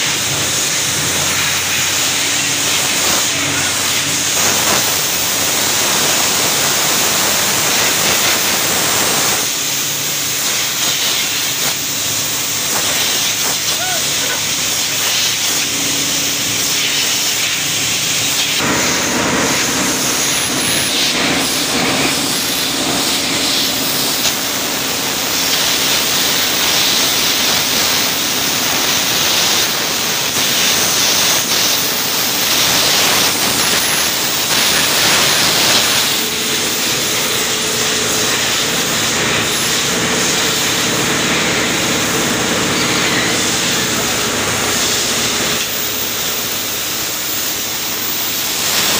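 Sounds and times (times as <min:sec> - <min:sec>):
drilling rig drone: 0:00.0 - 0:48.9
loud continuous hiss: 0:00.0 - 0:48.9.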